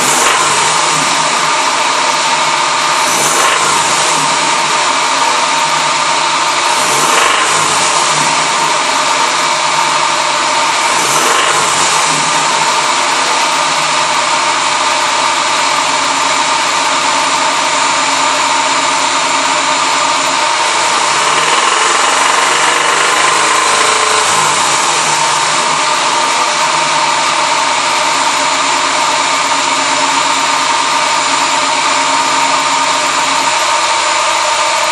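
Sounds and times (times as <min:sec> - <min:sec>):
engine running with rod knock: 0:00.0 - 0:34.9.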